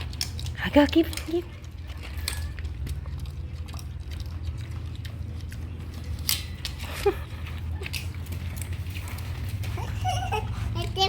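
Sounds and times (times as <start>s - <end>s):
farm animal chewing feed: 0.0s - 11.0s.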